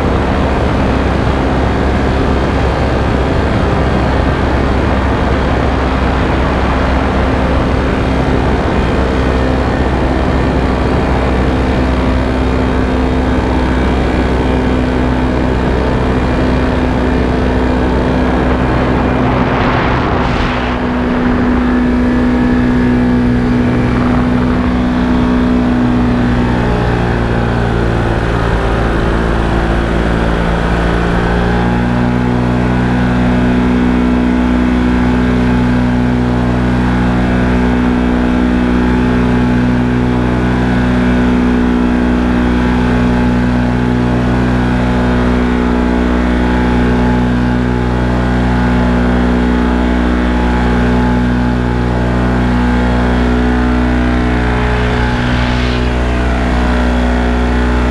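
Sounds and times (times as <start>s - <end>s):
two-stroke engine and propeller: 0.0s - 57.9s.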